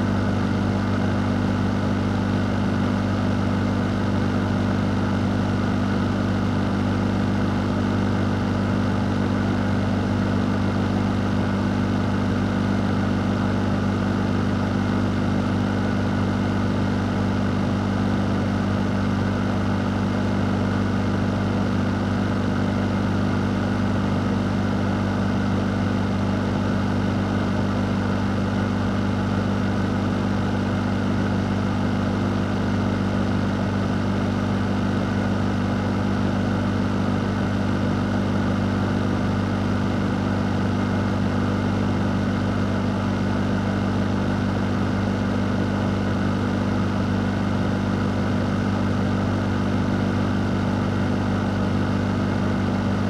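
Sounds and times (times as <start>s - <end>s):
fan humming with rushing air: 0.0s - 53.0s.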